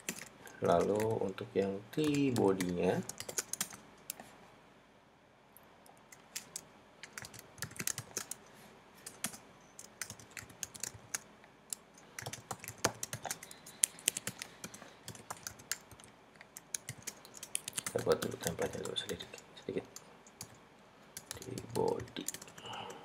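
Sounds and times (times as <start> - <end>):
keyboard typing: 0.0 - 1.2, 2.0 - 4.2, 6.1 - 20.6, 21.2 - 23.0.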